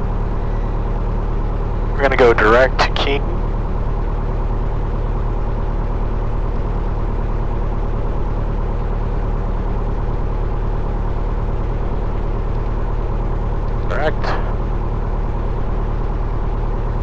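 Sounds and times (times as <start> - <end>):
propeller plane engine in cabin: 0.0 - 17.0.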